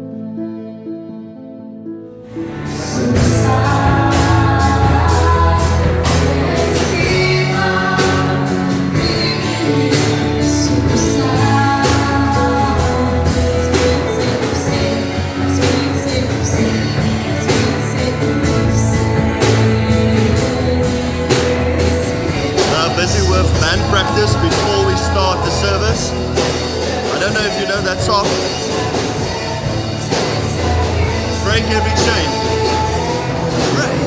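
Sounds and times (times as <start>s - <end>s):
worship band with drums: 2.3s - 34.0s
people singing: 2.4s - 34.0s.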